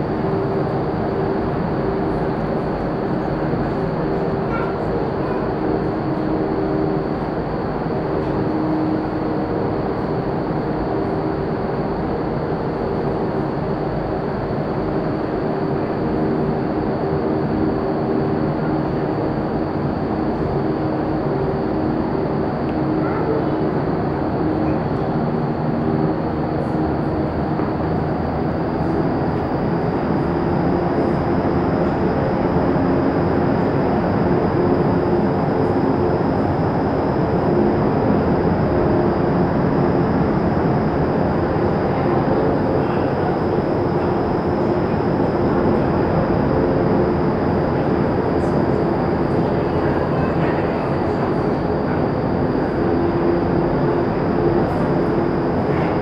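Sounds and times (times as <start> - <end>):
fan hum: 0.0 - 56.0.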